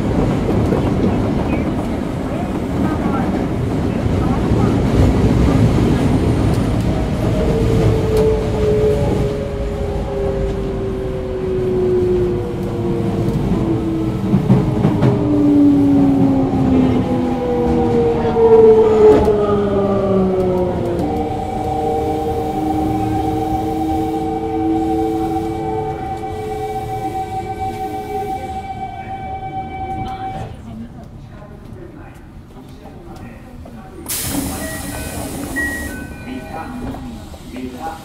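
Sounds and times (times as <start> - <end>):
train car rumble: 0.0 - 38.0.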